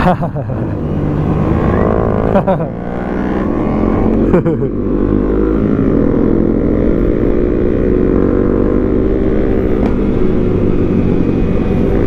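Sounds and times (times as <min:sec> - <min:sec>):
motorcycle engine running: 0:00.7 - 0:12.0.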